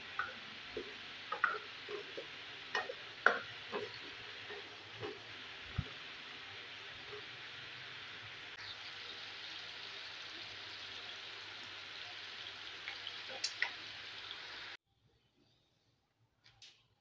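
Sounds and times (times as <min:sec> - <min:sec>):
potatoes sizzling in a pan: 0:00.0 - 0:14.8.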